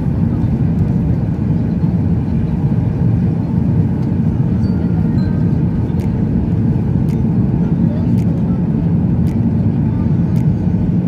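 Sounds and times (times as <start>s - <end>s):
airplane engines rumbling in cabin: 0.0s - 11.0s.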